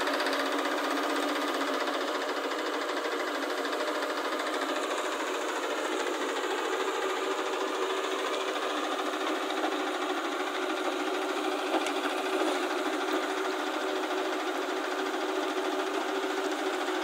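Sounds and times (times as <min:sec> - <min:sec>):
diesel truck engine rattling: 0:02.2 - 0:17.0.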